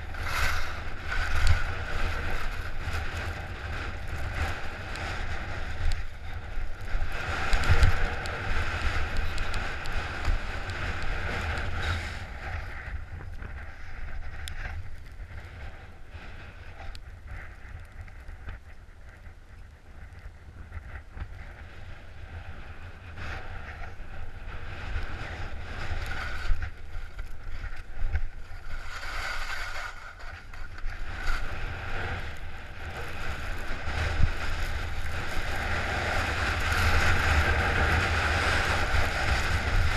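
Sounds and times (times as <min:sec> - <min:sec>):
skis scraping over snow: 0:00.0 - 0:19.3, 0:20.7 - 0:39.9
wind rushing over camera: 0:00.0 - 0:39.9.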